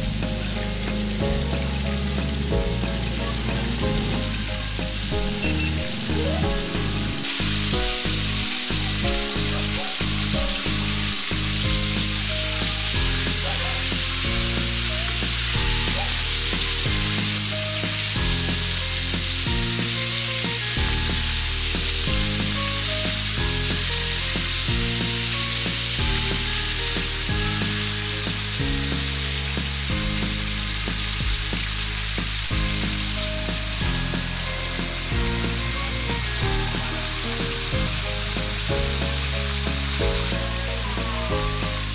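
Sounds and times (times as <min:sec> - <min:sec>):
background music with bass line: 0:00.0 - 0:41.9
oil sizzling and crackling: 0:00.0 - 0:41.9.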